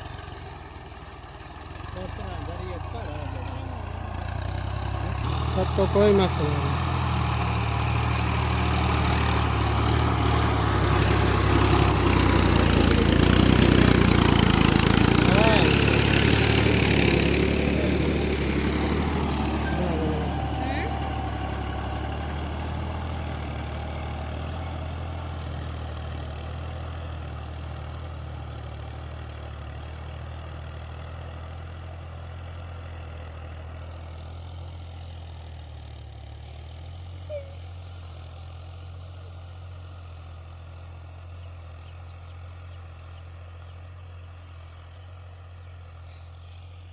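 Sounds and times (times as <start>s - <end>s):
diesel tractor engine droning: 0.0s - 46.9s.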